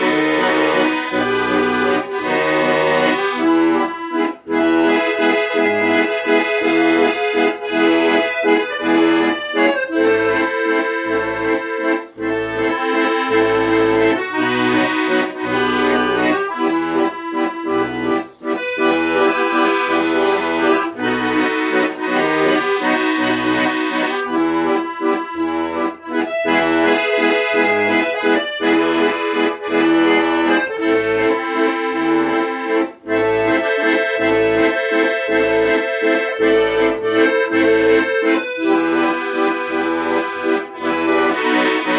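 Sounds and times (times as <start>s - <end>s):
accordion melody: 0.0s - 41.9s
rhythmic bass accompaniment: 0.0s - 41.9s.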